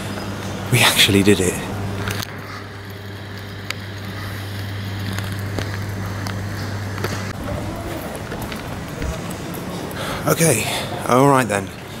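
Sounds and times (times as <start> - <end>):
low mechanical hum: 0.0 - 12.0
street noise: 0.0 - 12.0.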